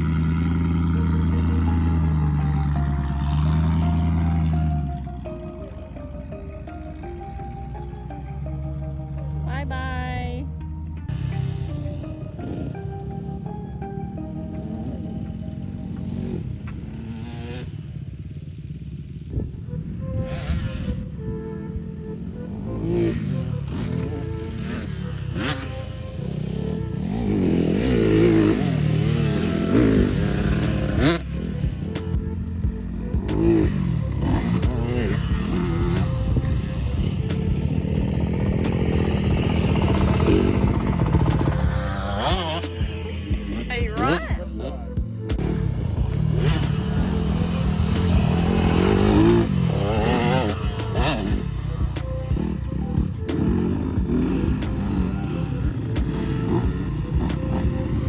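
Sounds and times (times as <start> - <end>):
engine revving: 0.0 - 9.7, 14.6 - 21.3, 22.2 - 58.0.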